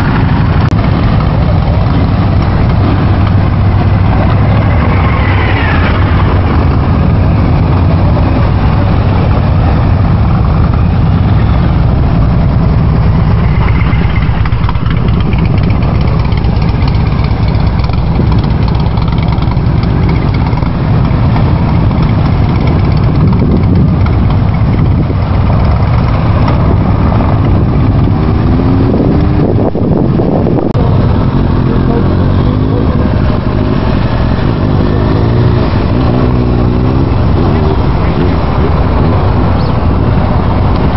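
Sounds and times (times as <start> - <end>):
loud steady low rumble: 0.0 - 40.9
motorcycle engines running: 0.0 - 40.9.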